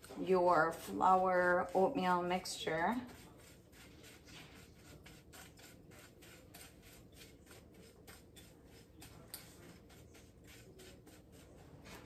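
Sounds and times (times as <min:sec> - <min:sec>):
fingers rubbing crumbly mixture: 0:00.0 - 0:12.0.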